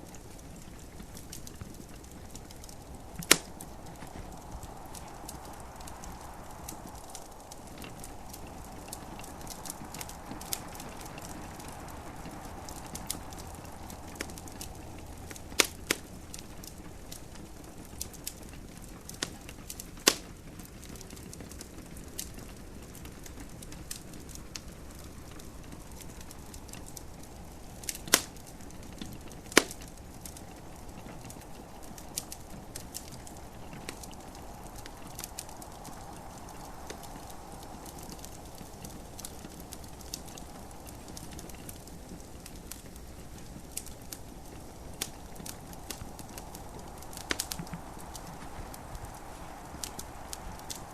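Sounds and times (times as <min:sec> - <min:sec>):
gentle rain hiss: 0:00.0 - 0:50.9
wood fire crackling and popping: 0:00.0 - 0:50.9.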